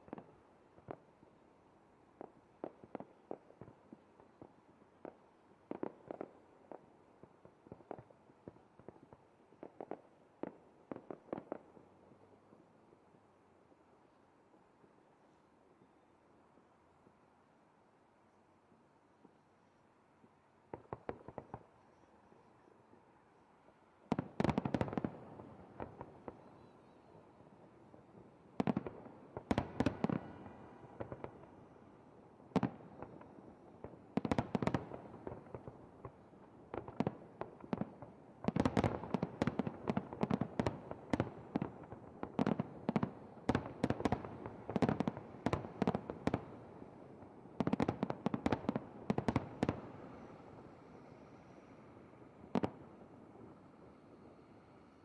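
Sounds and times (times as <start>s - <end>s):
fireworks bursting with sharp bangs: 0.0s - 1.4s, 2.1s - 12.3s, 20.7s - 23.1s, 24.0s - 55.0s.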